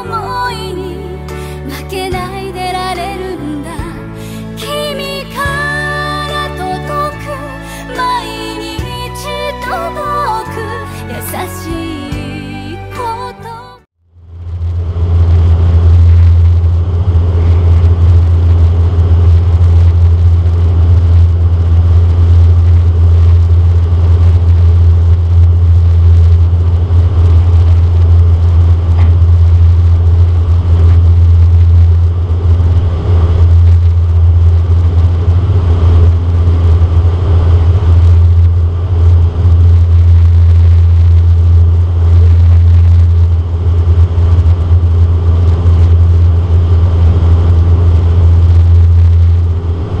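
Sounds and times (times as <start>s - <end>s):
turboprop cabin drone: 0.0s - 12.9s, 13.8s - 50.0s.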